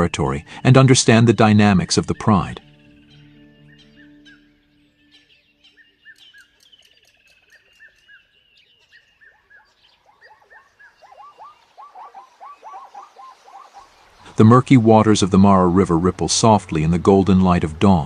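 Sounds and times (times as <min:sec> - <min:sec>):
birds whistling down-slurred notes: 0:00.0 - 0:18.0
lower bird calls: 0:00.0 - 0:18.0.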